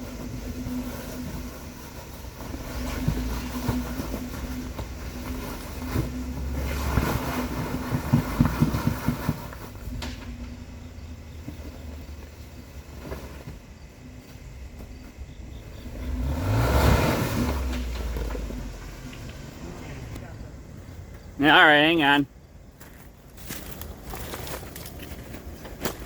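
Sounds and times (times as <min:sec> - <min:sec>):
car engine running: 0:00.0 - 0:22.2.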